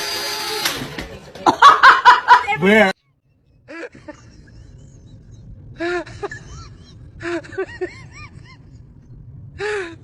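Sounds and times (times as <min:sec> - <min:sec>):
low background hum: 0:00.3 - 0:10.0.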